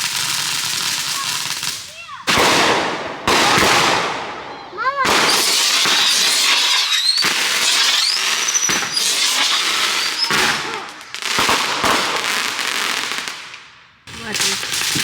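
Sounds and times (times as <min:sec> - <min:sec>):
fireworks crackling and popping: 0:00.0 - 0:15.0
whistling firework shells: 0:00.0 - 0:15.0.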